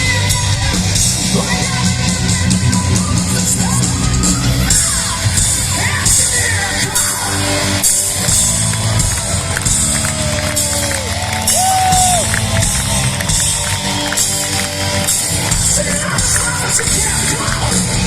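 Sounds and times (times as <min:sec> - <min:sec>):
crowd shouting and cheering: 0:00.0 - 0:18.0
hard rock band playing live: 0:00.0 - 0:18.0.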